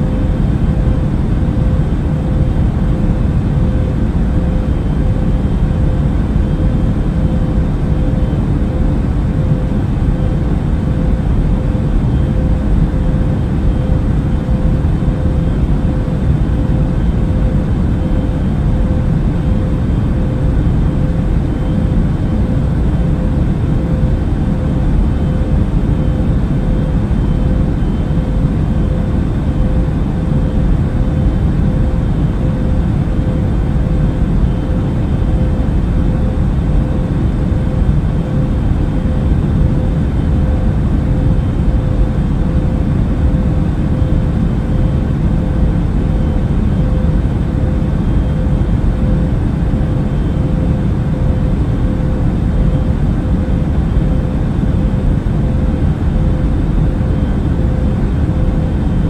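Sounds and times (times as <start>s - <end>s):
airliner cabin engine rumble: 0.0s - 59.0s
faint steady hum: 0.0s - 59.0s.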